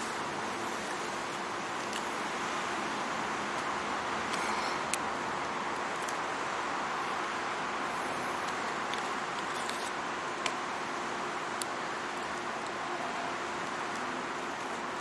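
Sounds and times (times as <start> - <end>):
rushing street and air noise: 0.0 - 15.0.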